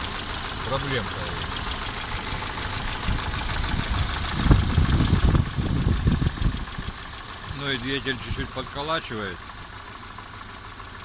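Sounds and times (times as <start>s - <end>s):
car engine idling with knock: 0.0s - 11.0s.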